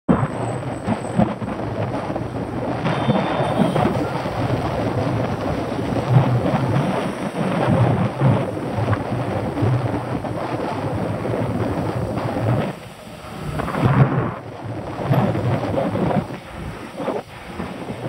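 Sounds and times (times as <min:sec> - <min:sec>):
wind buffeting microphone: 0:00.1 - 0:18.0.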